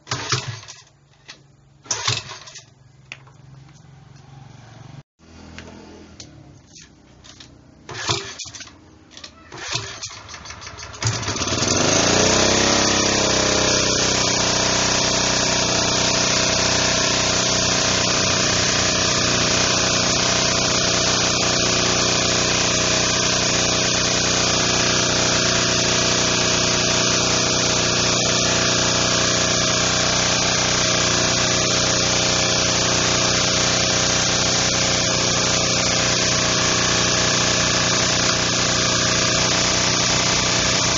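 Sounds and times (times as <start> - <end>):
generator recoil pulls: 0.0 - 2.7, 7.2 - 40.9
generator engine running: 5.2 - 40.9.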